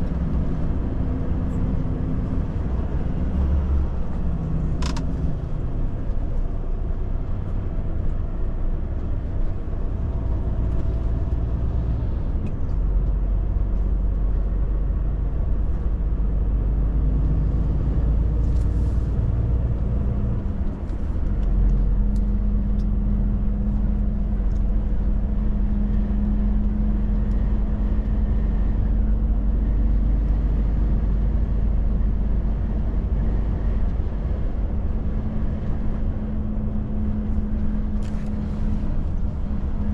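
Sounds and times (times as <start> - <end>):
road noise: 0.0 - 39.9
truck diesel engine running: 0.0 - 39.9.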